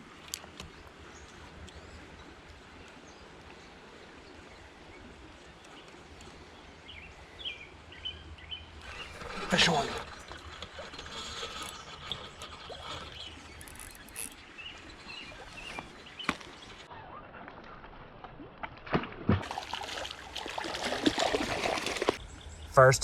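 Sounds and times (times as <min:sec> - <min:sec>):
creek water running: 0:00.0 - 0:16.9, 0:19.4 - 0:23.0.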